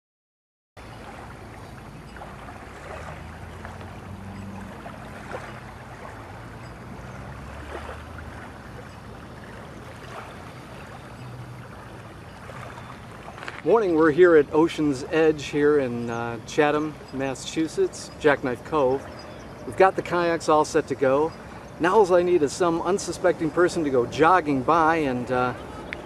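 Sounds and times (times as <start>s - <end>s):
low motor hum: 0.8s - 17.4s, 18.0s - 26.0s
small waves lapping on sand: 0.8s - 26.0s.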